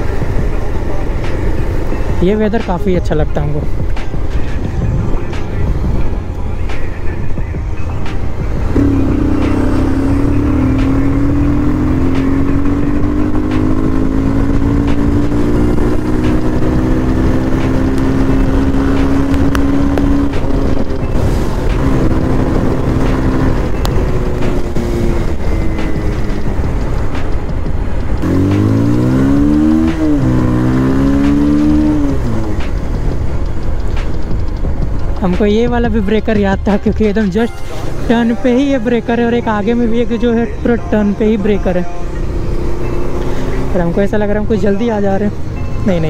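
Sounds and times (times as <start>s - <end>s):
motorcycle engine running: 0.0s - 2.8s, 7.2s - 37.4s, 38.2s - 46.0s.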